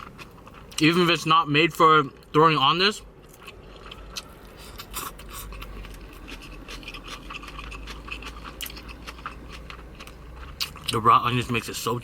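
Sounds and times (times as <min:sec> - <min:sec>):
person chewing food: 0:00.0 - 0:01.2, 0:03.0 - 0:11.6.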